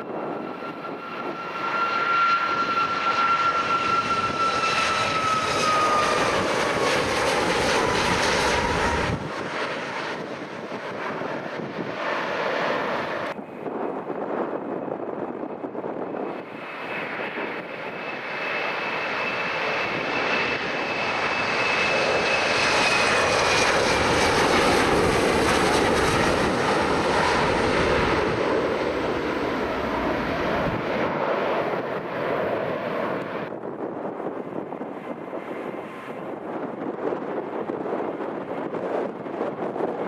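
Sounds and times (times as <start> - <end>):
airliner engine noise: 0.0 - 40.0.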